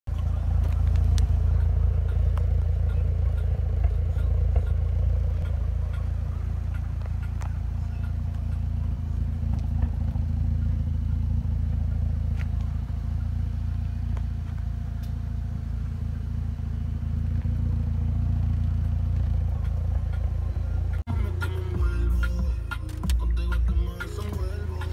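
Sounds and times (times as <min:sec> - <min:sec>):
car engine idling: 0:00.1 - 0:24.9.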